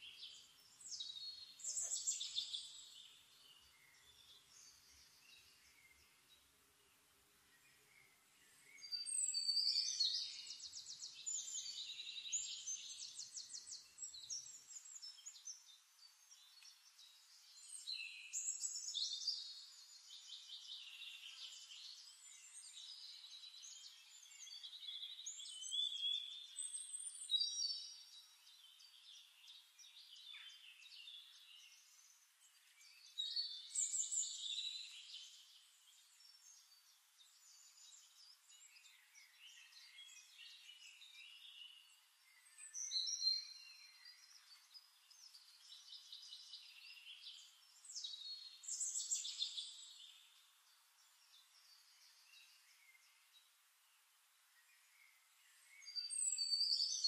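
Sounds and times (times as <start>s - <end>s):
faint hiss: 0.0s - 57.0s
songbirds trilling and chirping: 0.0s - 57.0s.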